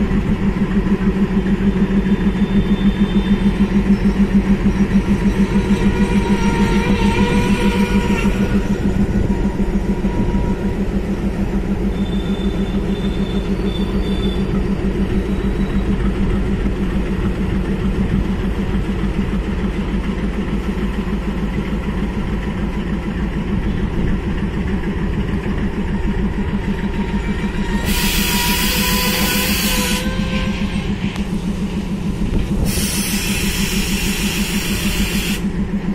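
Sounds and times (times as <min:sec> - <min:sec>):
diesel locomotive engine throbbing: 0:00.0 - 0:35.9.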